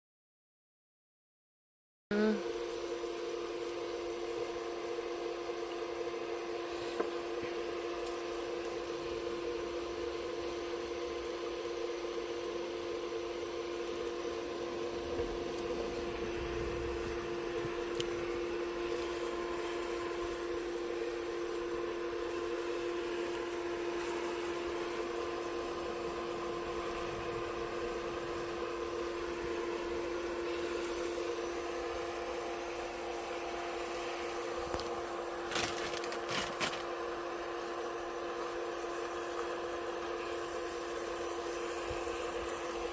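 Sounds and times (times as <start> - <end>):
steady mechanical hum: 2.1 - 42.9.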